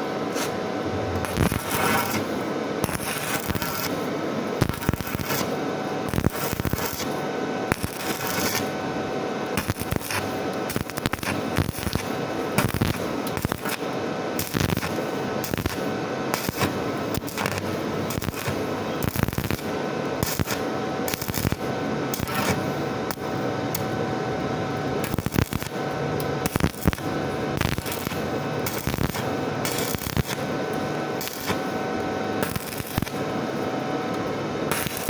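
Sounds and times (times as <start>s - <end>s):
welding arc crackling: 0.8s - 8.8s, 9.5s - 33.8s, 34.7s - 35.0s.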